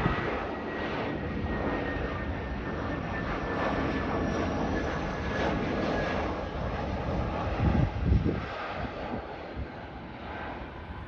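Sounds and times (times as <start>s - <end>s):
jet engines rushing with whine: 0.0s - 11.0s.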